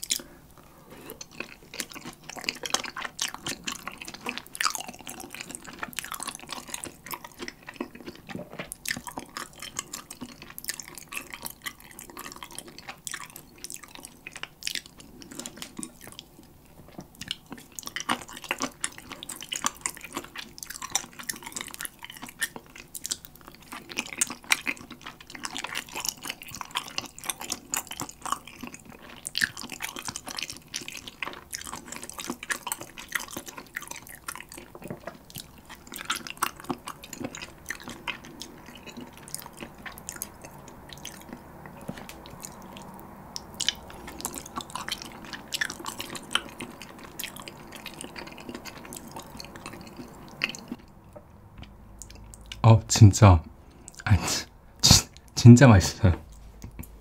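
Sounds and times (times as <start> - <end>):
wet chewing with mouth smacks: 0.0 - 0.3, 0.9 - 52.6, 53.4 - 54.1, 56.2 - 57.0.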